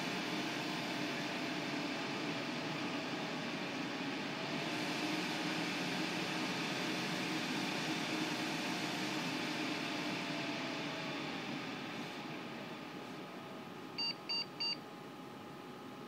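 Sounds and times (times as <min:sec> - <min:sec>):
cooling fan rushing: 0:00.0 - 0:16.0.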